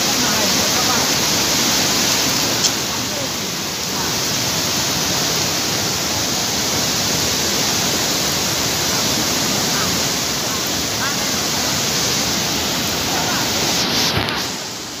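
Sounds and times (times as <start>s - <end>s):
river floodwater rushing: 0.0s - 15.0s.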